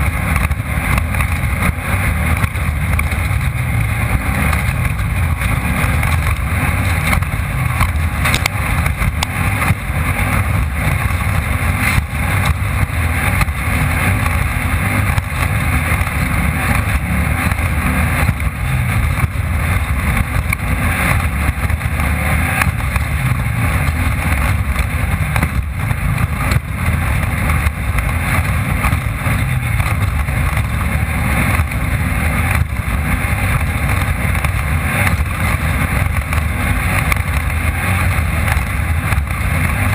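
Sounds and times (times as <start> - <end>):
chassis rattle: 0.0 - 39.9
race car engine: 0.0 - 39.9.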